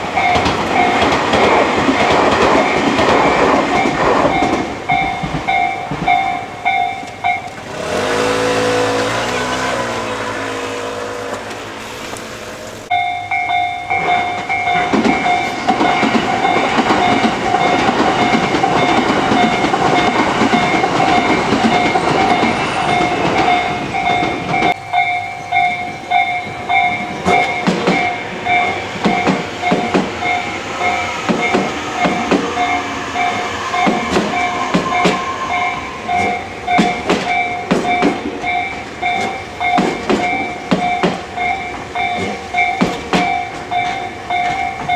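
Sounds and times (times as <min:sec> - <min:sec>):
level-crossing alarm bell: 0:00.0 - 0:44.9
train passing: 0:00.0 - 0:44.9
wheels clacking over rail joints: 0:00.0 - 0:44.9.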